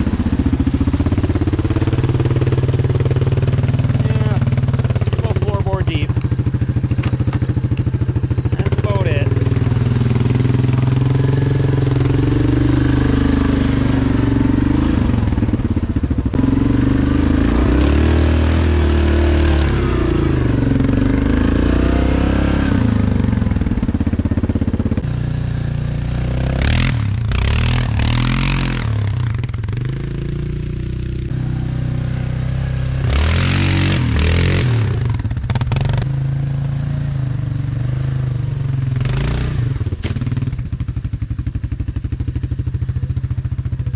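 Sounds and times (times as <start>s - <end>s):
atv engine under load: 0.0s - 43.9s.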